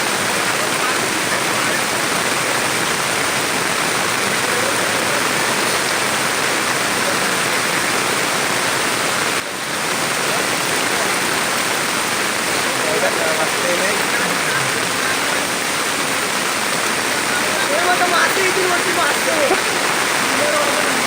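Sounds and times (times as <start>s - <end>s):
rushing floodwater: 0.0s - 21.0s.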